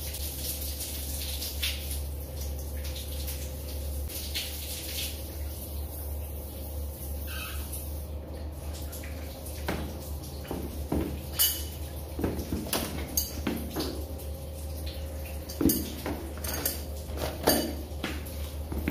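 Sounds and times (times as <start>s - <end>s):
steady low hum: 0.2s - 18.9s.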